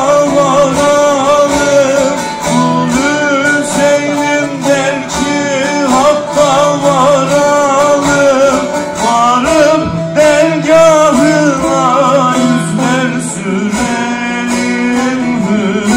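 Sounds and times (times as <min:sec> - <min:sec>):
long-necked lute playing: 0:00.0 - 0:15.9
person singing: 0:00.0 - 0:15.9.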